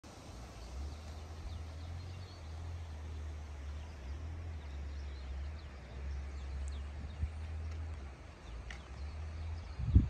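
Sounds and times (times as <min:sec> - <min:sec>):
wind buffeting microphone: 0:00.1 - 0:10.0.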